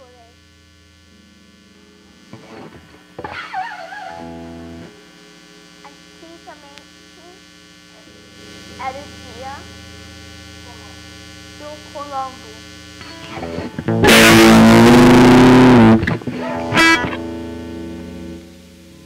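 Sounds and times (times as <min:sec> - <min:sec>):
amplifier hum: 0:00.0 - 0:19.0
distorted electric guitar chord: 0:00.0 - 0:19.0.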